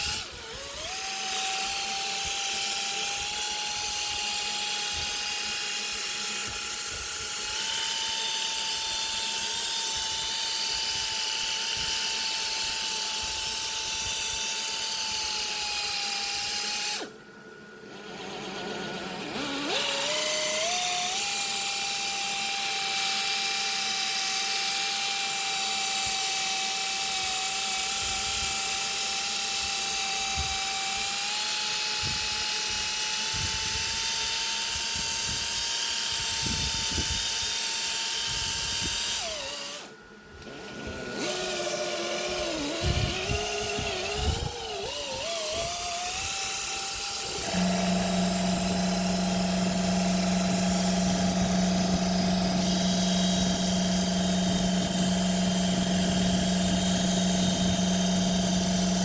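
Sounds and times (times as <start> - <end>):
power tool whining: 0.0 - 59.0.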